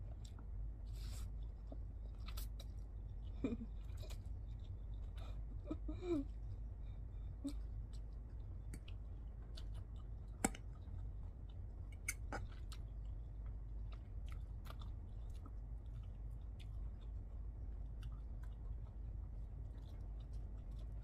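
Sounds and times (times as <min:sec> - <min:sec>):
person chewing noodles: 0:00.0 - 0:21.0
steady low hum: 0:00.0 - 0:21.0.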